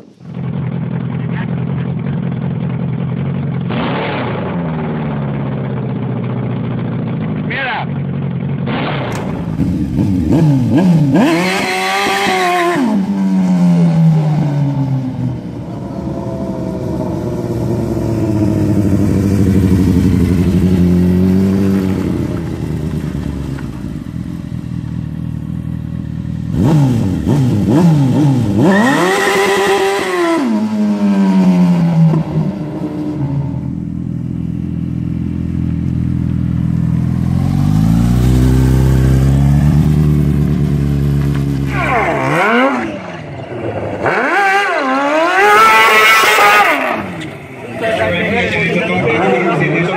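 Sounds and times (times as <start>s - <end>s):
go-kart engine revving: 0.2s - 49.9s.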